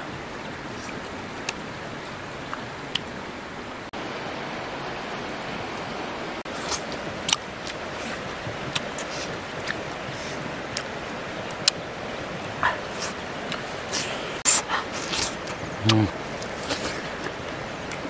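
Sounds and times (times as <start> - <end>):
river flowing over stones: 0.0 - 18.0.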